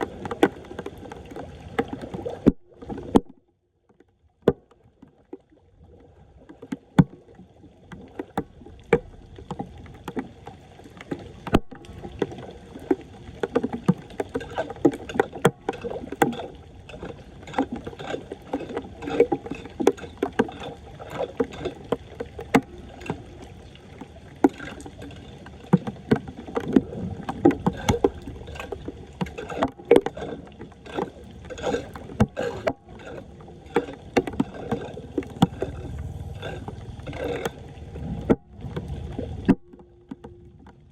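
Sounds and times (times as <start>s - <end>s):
water splashing and sloshing: 0.0s - 40.9s.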